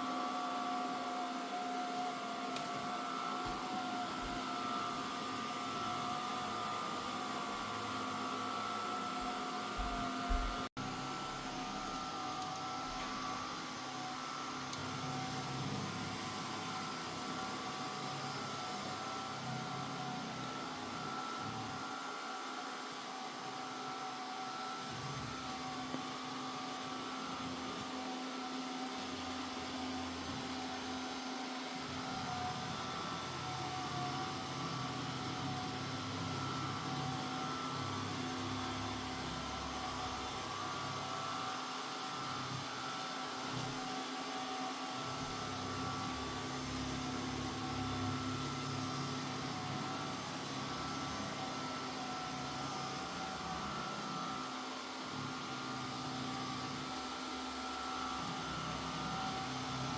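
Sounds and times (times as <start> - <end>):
robot vacuum fan hum: 0.0 - 59.9.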